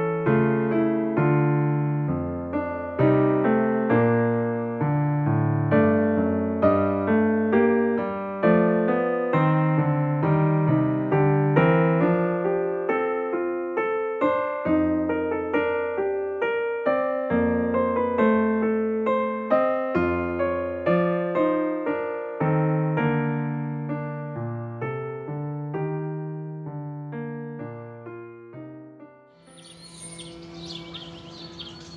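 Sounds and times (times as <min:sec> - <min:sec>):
electric piano melody: 0:00.0 - 0:31.9.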